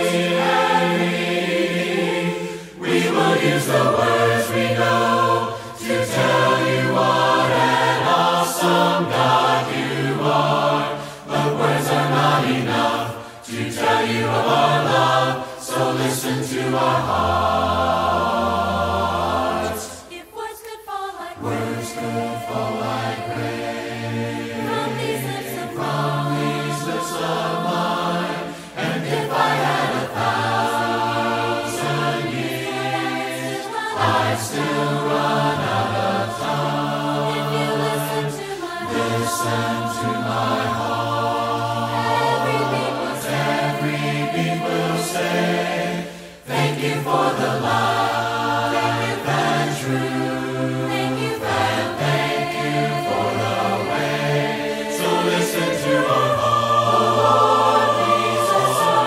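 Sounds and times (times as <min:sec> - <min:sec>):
group singing a cappella hymn: 0:00.0 - 0:59.0.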